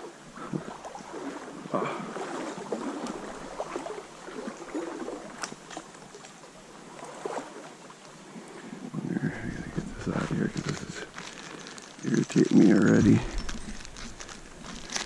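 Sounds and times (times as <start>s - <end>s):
light water splashes: 0.0s - 15.0s
stream gurgling: 0.0s - 15.0s.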